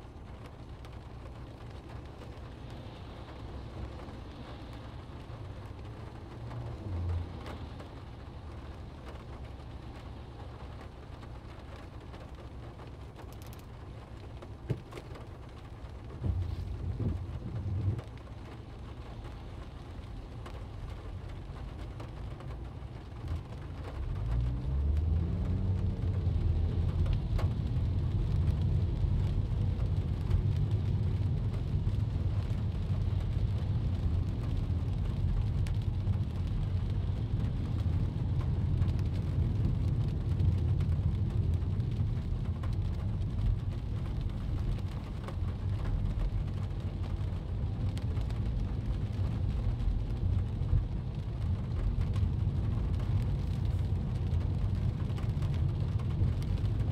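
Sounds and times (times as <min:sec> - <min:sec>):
car engine and tyres rumbling: 0:00.0 - 0:56.9
rain on car glass: 0:00.0 - 0:56.9.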